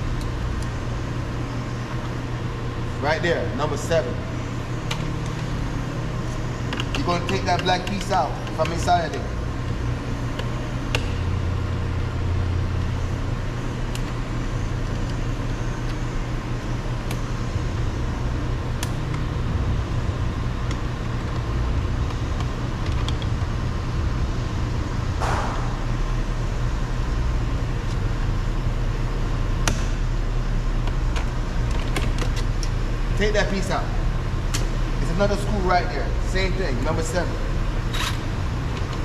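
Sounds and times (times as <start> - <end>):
steady low rumble: 0.0 - 39.0.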